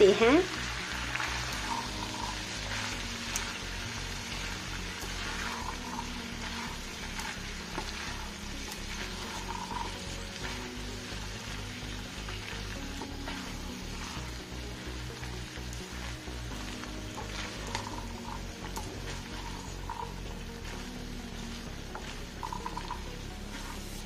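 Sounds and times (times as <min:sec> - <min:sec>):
food sizzling in frying pan: 0:00.0 - 0:24.0
quiet background music: 0:00.0 - 0:24.0.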